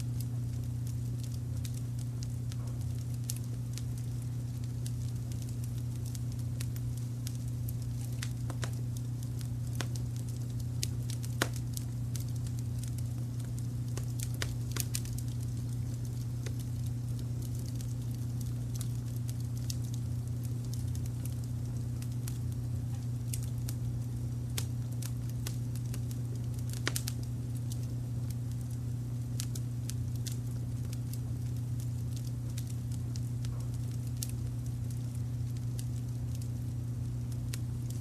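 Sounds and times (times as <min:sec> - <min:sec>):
low rumble of brown noise: 0:00.0 - 0:38.0
wood fire crackling and popping: 0:00.0 - 0:38.0.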